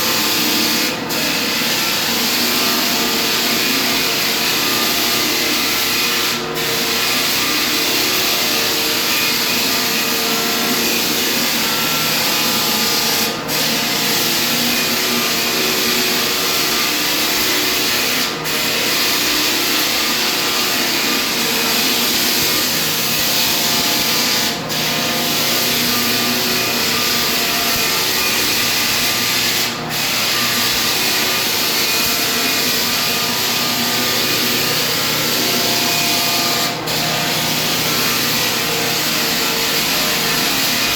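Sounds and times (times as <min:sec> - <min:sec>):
floor sanding machine running: 0:00.0 - 0:40.9.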